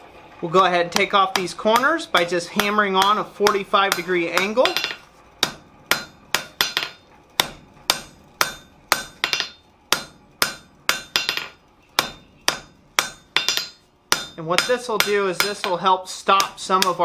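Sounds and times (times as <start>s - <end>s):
hammer striking hot metal on anvil: 0.9s - 17.0s.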